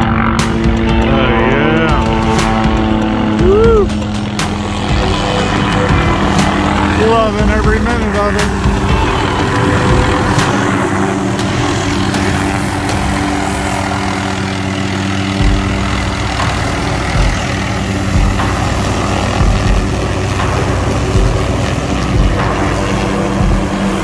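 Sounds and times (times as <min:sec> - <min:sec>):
helicopter rotor drone: 0:00.0 - 0:24.0
low buffeting: 0:00.0 - 0:24.0.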